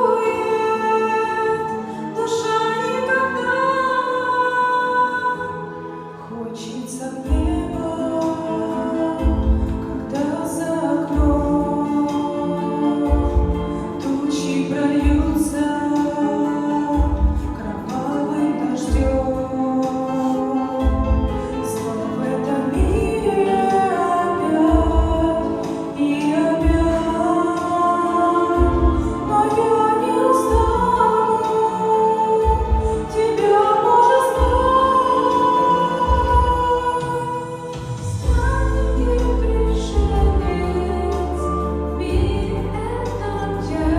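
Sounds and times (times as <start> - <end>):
women singing in harmony: 0.0 - 43.9.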